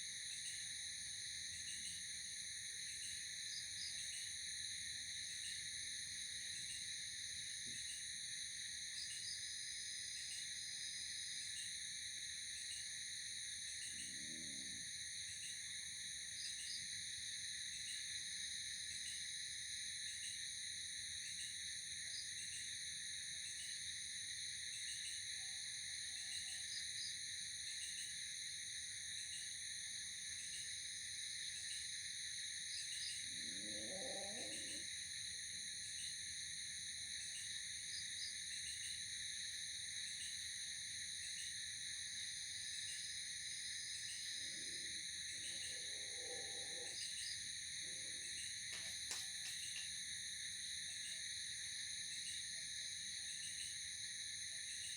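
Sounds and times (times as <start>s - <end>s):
crickets trilling: 0.2s - 54.9s.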